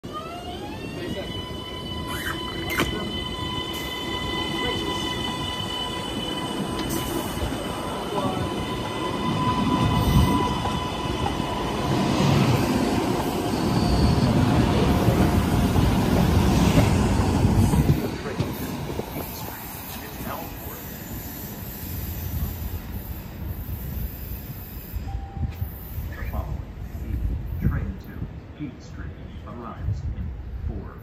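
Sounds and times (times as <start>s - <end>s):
high whine of train motor: 0.1s - 26.6s
train wheels rumbling on rail: 0.5s - 31.0s.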